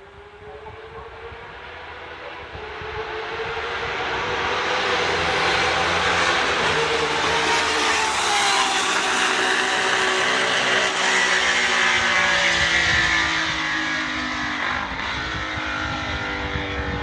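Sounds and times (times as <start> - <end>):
racing engine at high revs: 0.0 - 17.0.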